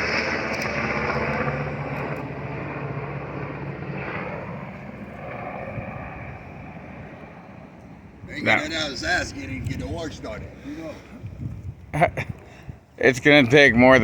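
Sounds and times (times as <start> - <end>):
helicopters rotor noise: 0.0 - 14.0.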